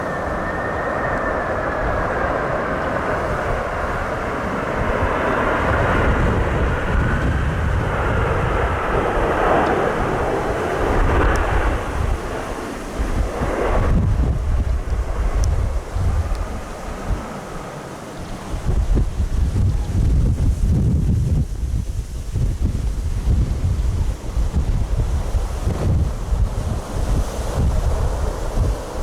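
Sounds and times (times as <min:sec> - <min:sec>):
jet airliner engine roar: 0:00.0 - 0:29.0
wind buffeting microphone: 0:00.0 - 0:29.0.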